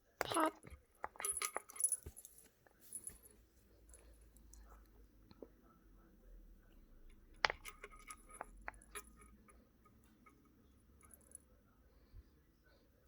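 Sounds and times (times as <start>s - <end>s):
faint handling: 0.0s - 5.7s, 6.6s - 12.2s.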